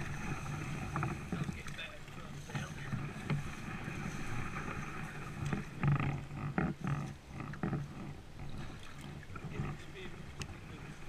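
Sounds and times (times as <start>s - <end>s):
paddle splashing water: 0.0s - 11.0s
reeds scraping along hull: 0.0s - 11.0s.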